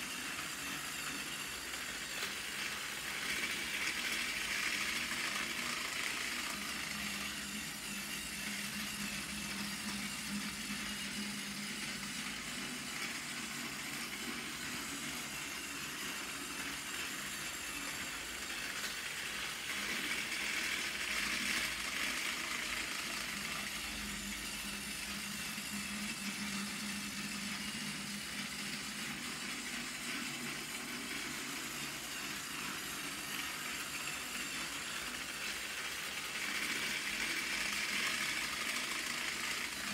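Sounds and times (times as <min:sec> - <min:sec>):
toy train cars rattling: 0:00.0 - 0:39.9
toy train motor whirring: 0:00.0 - 0:39.9.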